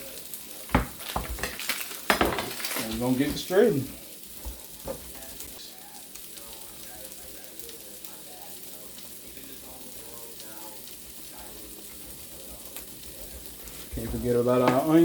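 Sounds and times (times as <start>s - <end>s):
onions sizzling in a skillet: 0.0s - 15.0s.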